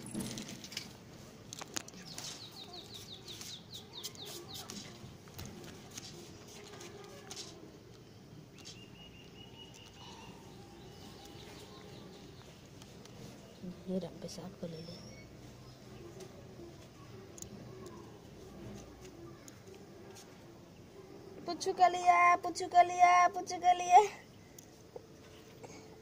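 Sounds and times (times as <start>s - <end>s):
low background noise: 0.0s - 26.0s
faint bird chirping: 1.8s - 26.0s.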